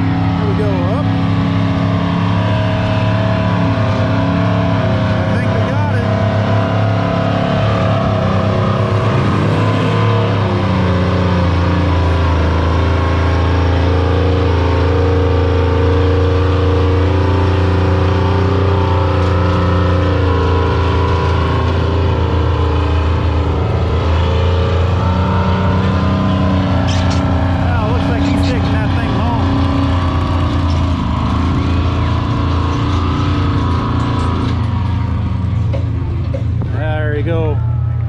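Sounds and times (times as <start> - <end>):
truck engine under full load: 0.0 - 38.0.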